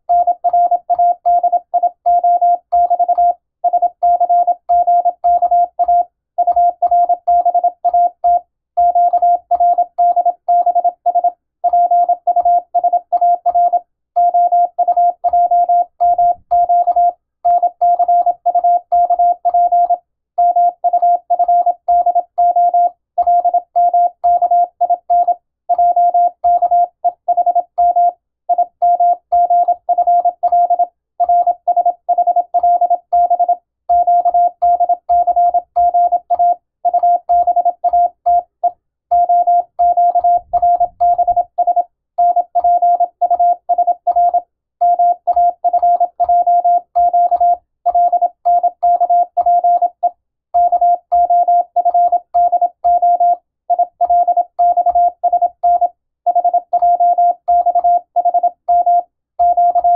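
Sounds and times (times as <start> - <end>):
morse code beeps: 0.1 - 59.9.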